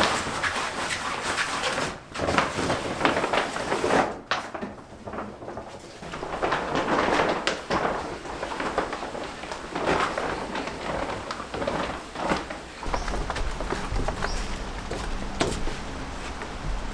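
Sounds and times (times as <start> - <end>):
plastic mat rustling and crackling: 0.0 - 16.9.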